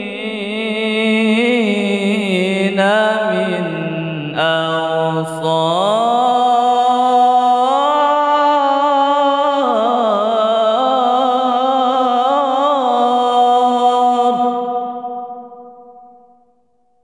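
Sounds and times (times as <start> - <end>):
man reciting melodically: 0.0 - 15.3.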